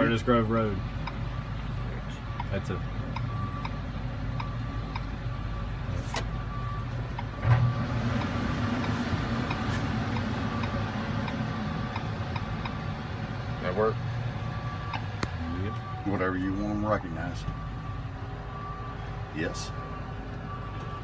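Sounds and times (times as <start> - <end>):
excavator diesel engine idling: 0.0 - 21.0.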